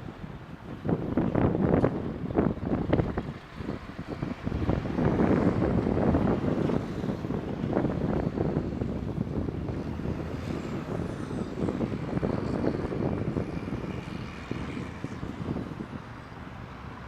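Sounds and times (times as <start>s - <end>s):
heavy diesel engines rumbling: 0.0s - 17.0s.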